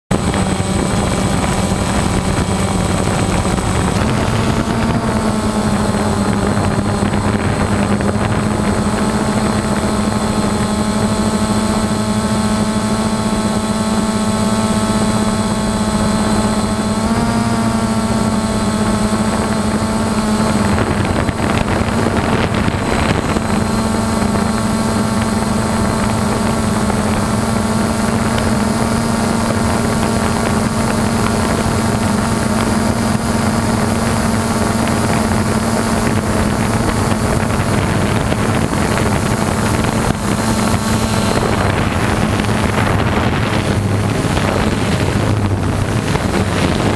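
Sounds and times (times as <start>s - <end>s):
drone buzzing whine: 0.0s - 46.9s.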